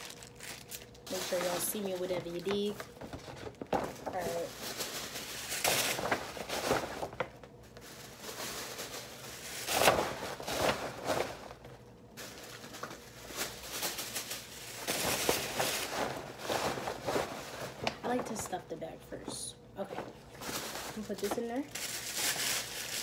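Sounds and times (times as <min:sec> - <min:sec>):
paper rustling and crinkling: 0:00.0 - 0:23.0.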